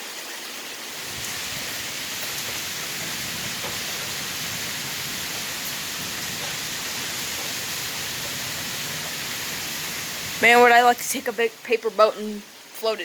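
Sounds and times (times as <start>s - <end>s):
rain splashing on surfaces: 0.0s - 13.0s.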